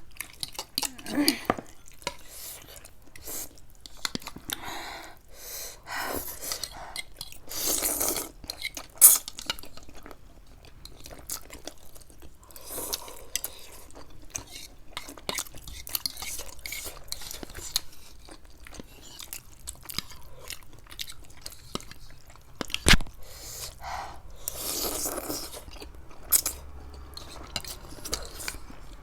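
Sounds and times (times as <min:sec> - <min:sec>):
chewing: 0:00.0 - 0:05.3, 0:06.2 - 0:29.0.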